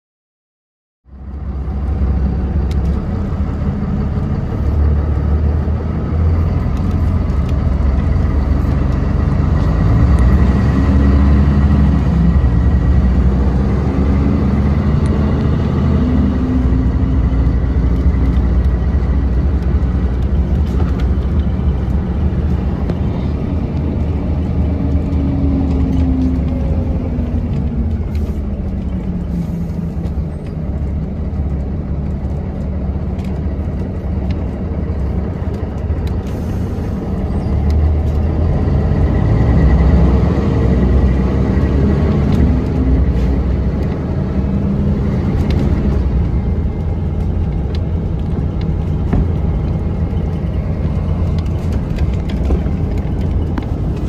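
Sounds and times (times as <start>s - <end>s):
bus engine rumble: 1.1s - 54.0s.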